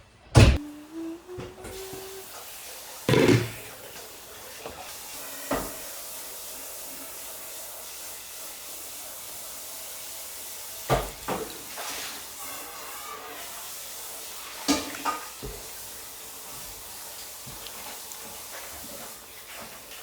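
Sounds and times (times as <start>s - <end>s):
food frying in hot oil: 0.7s - 20.0s.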